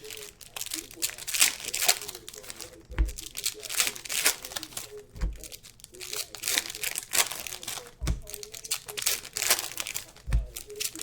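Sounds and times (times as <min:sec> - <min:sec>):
dull thumps: 0:00.0 - 0:11.0
wrappers crinkling and tearing: 0:00.0 - 0:11.0.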